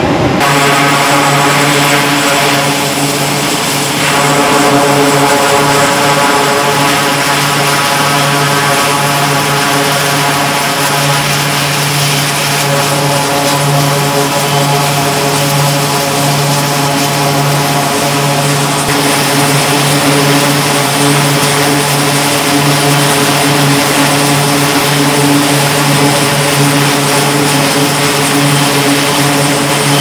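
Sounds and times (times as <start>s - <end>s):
turboprop engines running: 0.0s - 30.0s.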